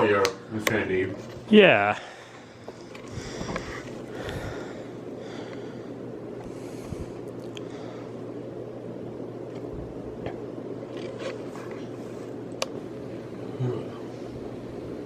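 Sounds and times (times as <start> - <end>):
ceiling fan air rush and hum: 0.0 - 15.0.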